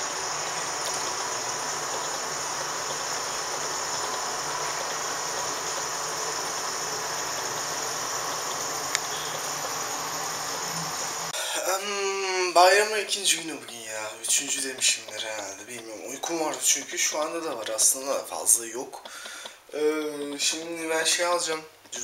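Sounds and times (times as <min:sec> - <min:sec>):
high-pitched hissing drone: 0:00.0 - 0:19.1, 0:19.7 - 0:21.4.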